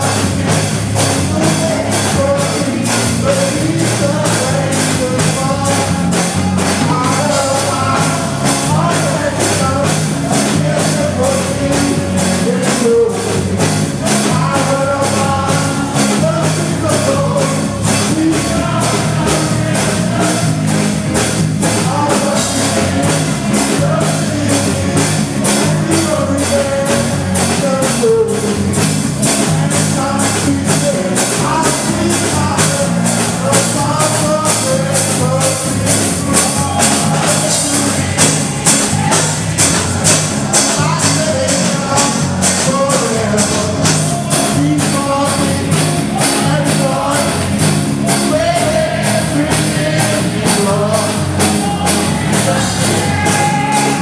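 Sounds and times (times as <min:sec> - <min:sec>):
band playing: 0:00.0 - 0:54.0
drums steady beat: 0:00.0 - 0:54.0
voices singing together: 0:00.0 - 0:54.0.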